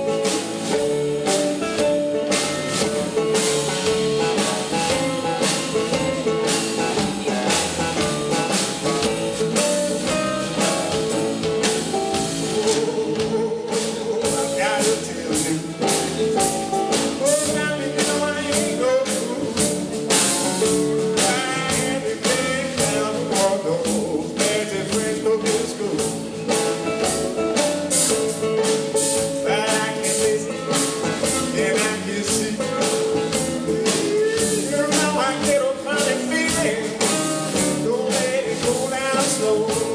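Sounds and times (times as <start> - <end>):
drum kit beat: 0.0 - 39.9
electric bass: 0.0 - 39.9
guitar: 0.0 - 39.9
man singing: 0.0 - 39.9.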